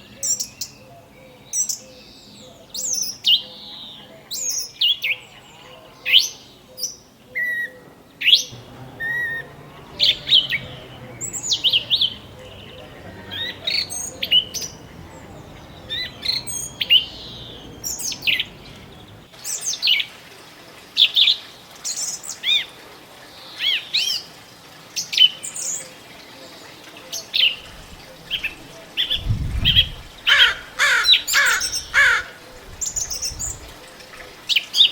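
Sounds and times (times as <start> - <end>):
small songbirds chirping: 0.0 - 20.1, 21.0 - 34.9.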